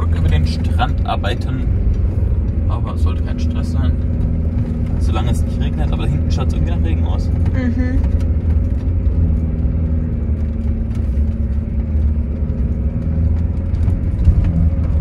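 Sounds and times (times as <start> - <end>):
heavy low rumble: 0.0 - 15.0
van engine humming: 0.0 - 15.0.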